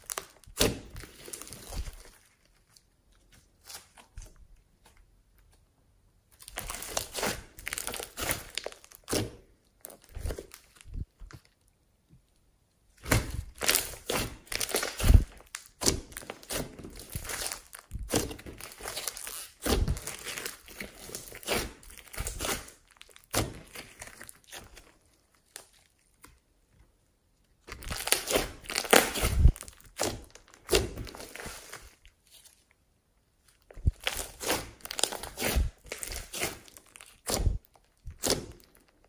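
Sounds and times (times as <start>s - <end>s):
sticky slime crackles and pops: 0.0s - 2.6s, 6.4s - 11.7s, 13.0s - 26.4s, 27.6s - 32.2s, 33.6s - 39.0s.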